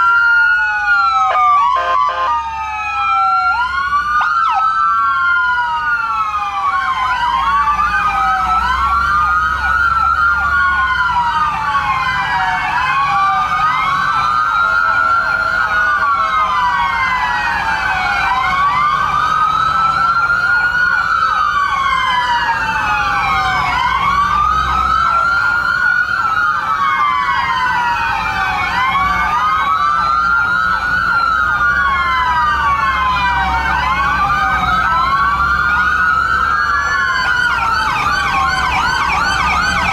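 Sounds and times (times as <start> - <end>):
fast yelping siren: 0.0 - 39.9
wailing fire truck sirens: 0.0 - 39.9.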